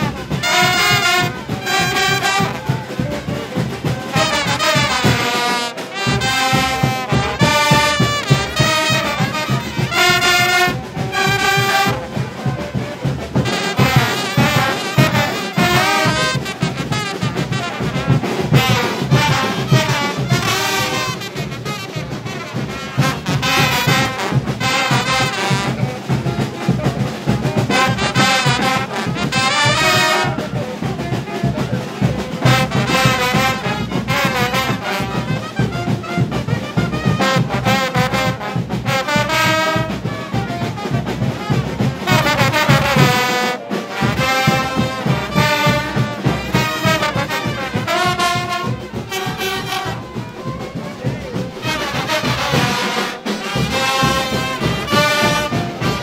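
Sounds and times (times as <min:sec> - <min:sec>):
brass band playing: 0:00.0 - 0:56.0
steady drum beat: 0:00.0 - 0:56.0.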